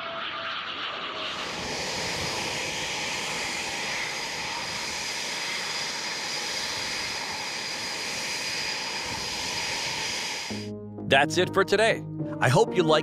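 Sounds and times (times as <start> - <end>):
jet engines whining: 0.0 - 10.7.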